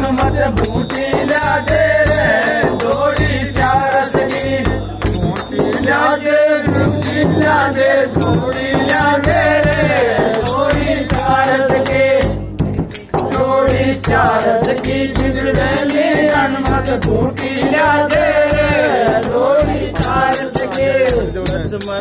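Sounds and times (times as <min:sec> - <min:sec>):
hand-played frame drum: 0:00.0 - 0:22.0
men singing folk song: 0:00.0 - 0:22.0.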